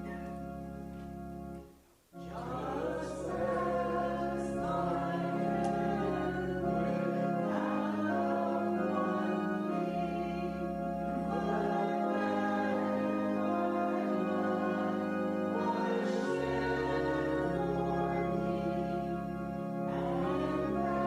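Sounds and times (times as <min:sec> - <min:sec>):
organ chords: 0:00.0 - 0:21.0
congregation singing a hymn: 0:02.2 - 0:21.0.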